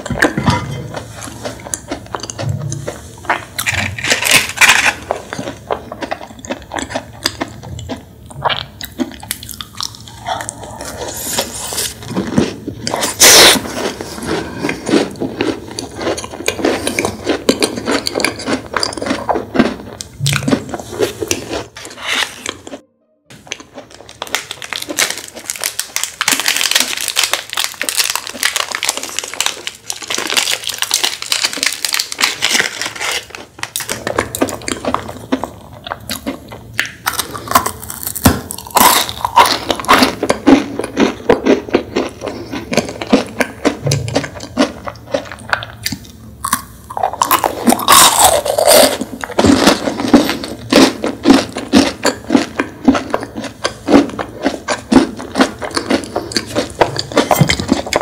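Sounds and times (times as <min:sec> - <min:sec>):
chewing and crunching macaron: 0:00.0 - 0:58.0
crunching wafer and chocolate: 0:00.0 - 0:58.0.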